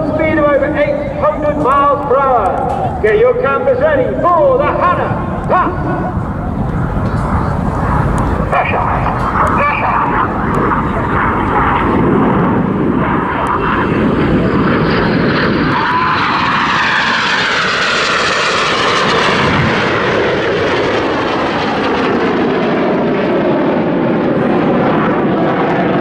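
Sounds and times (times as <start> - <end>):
jets passing low and fast: 0.0 - 26.0.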